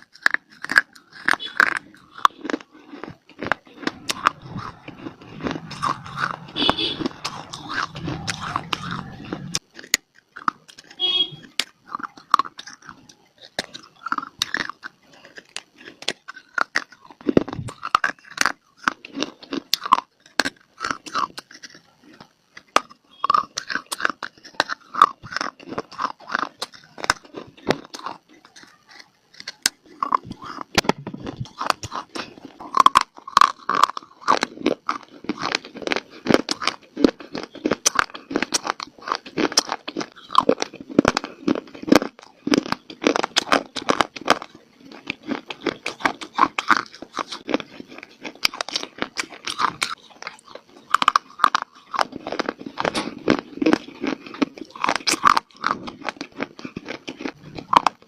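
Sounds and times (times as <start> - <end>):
person chewing crunchy clay: 0.0 - 58.0.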